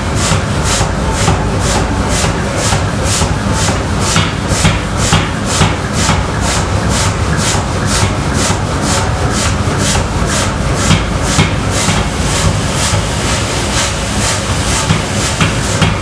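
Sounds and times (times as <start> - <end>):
power hammer striking steel: 0.0 - 16.0.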